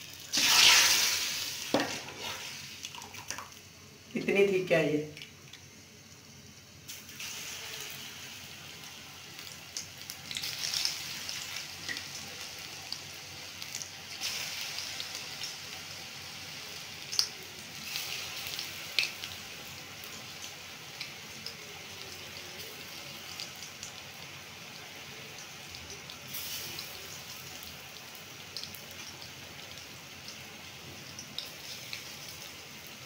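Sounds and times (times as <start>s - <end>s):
batter deep-frying in hot oil: 0.0s - 33.0s.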